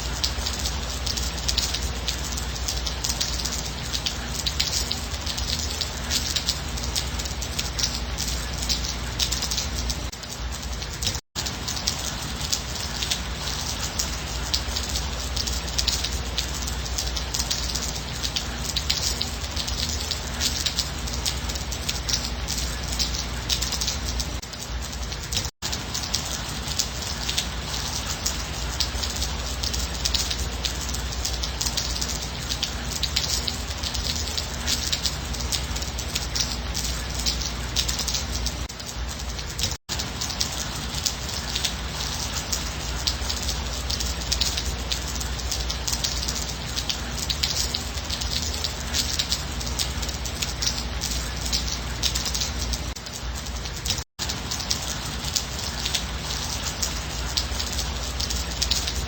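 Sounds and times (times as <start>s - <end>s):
gentle rain patter: 0.0s - 59.0s.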